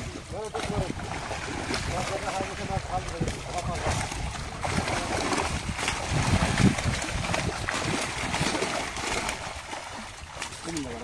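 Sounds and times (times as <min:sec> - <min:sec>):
fish splashing in shallow water: 0:00.0 - 0:11.0.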